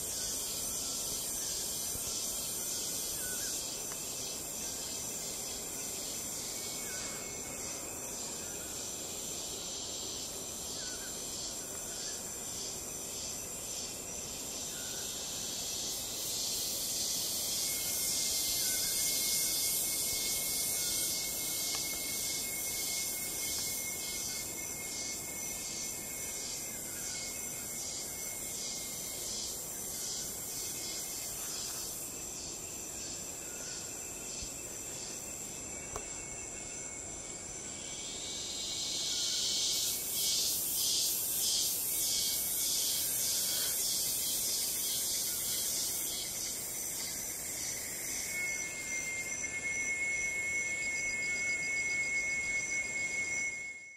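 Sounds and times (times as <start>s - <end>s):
insects pulsing chorus: 0.0s - 53.9s
thin steady whine: 0.0s - 53.9s.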